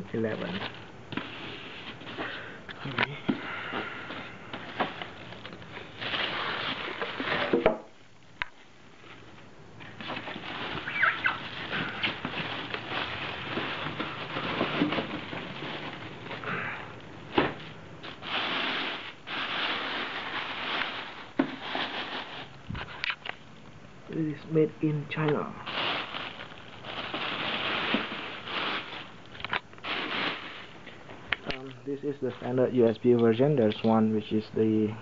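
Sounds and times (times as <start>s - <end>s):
plastic wrapping crinkling: 0.0s - 7.7s, 8.4s - 23.4s, 25.1s - 34.9s.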